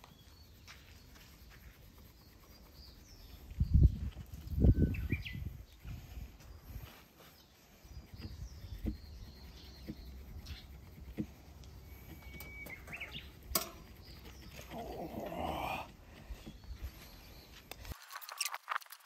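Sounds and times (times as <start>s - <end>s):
wooden spindle rubbing on wood: 0.0s - 17.2s
small birds chirping: 0.0s - 18.4s.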